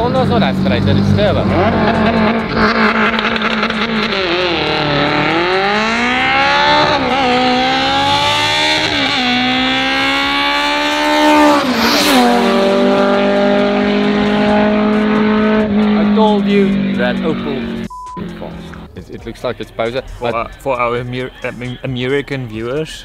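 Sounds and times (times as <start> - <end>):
racing car engine revving: 0.0 - 21.8.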